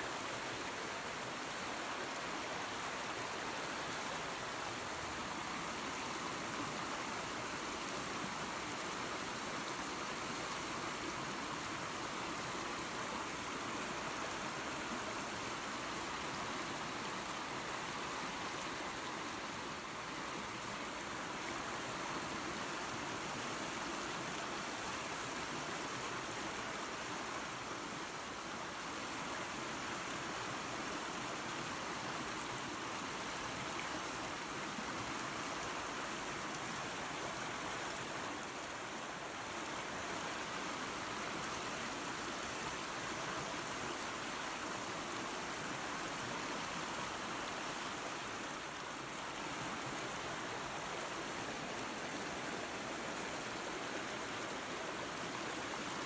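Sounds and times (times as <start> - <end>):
waterfall and creek running: 0.0 - 56.0.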